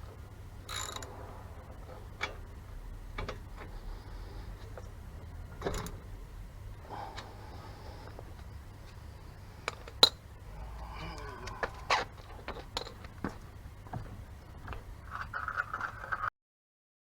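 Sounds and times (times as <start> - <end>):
low steady hum: 0.0 - 16.3.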